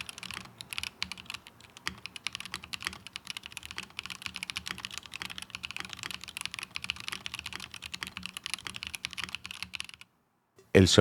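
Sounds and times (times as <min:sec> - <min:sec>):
fast mechanical keyboard typing: 0:00.0 - 0:10.1.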